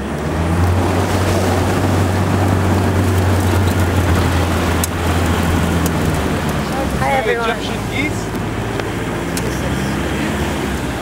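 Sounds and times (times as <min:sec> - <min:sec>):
vehicle engine low drone: 0:00.0 - 0:11.0
water churning: 0:00.0 - 0:11.0.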